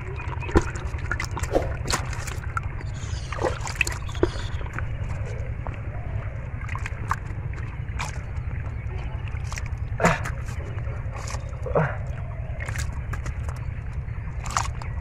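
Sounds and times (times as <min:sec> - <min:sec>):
shallow water sloshing: 0:00.0 - 0:15.0
steady low rumble: 0:00.0 - 0:15.0.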